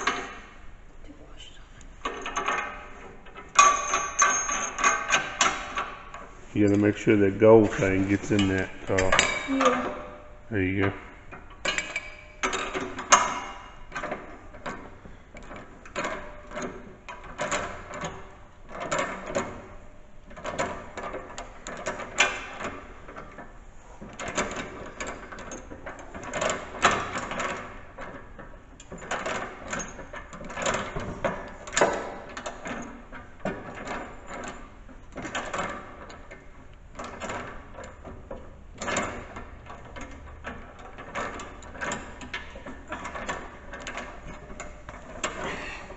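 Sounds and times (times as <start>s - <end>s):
tools and metal hardware clinking: 2.0s - 10.3s, 11.3s - 45.9s.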